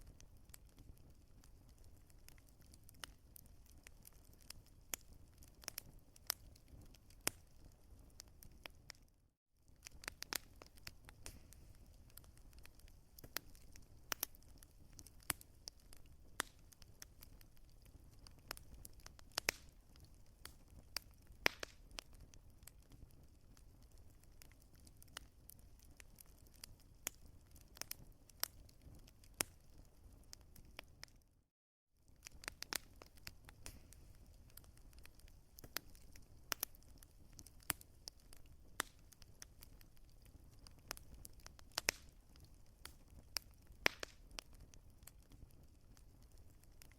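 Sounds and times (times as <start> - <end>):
wood fire crackling: 0.0 - 31.3, 32.0 - 46.9
low rumble of burning: 0.0 - 31.4, 32.0 - 46.9.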